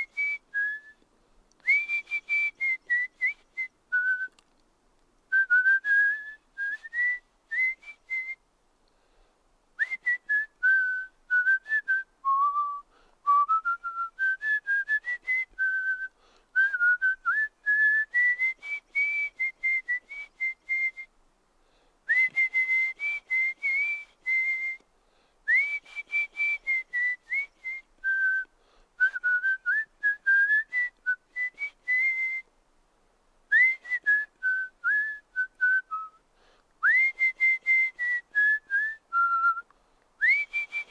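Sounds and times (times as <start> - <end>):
person whistling a tune: 0.0 - 1.0, 1.6 - 4.4, 5.3 - 8.4, 9.8 - 21.1, 22.1 - 24.8, 25.5 - 32.5, 33.5 - 36.2, 36.8 - 40.9.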